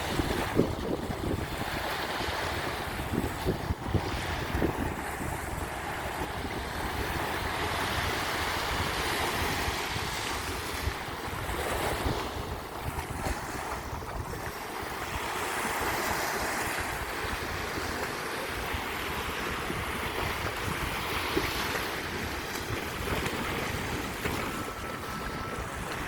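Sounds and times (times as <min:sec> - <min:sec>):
sea waves washing onto beach: 0:00.0 - 0:26.0
wind rumbling on microphone: 0:00.0 - 0:26.0.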